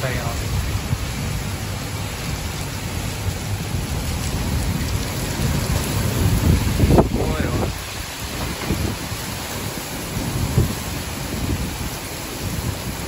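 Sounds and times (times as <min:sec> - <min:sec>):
low storm rumble: 0:00.0 - 0:13.0
torrential rain hissing: 0:00.0 - 0:13.0.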